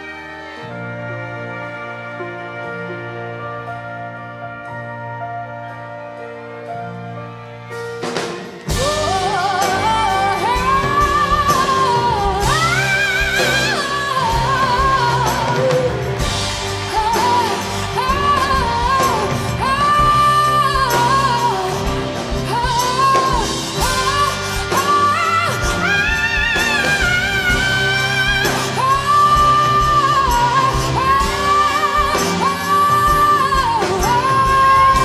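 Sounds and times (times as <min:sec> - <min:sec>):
rock band and orchestra: 0:00.0 - 0:35.0.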